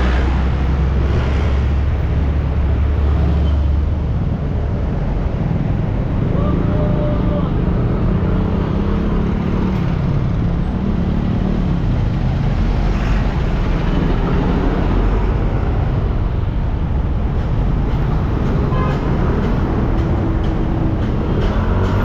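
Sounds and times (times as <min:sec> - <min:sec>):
low wind rumble: 0:00.0 - 0:22.0
road noise: 0:00.0 - 0:22.0.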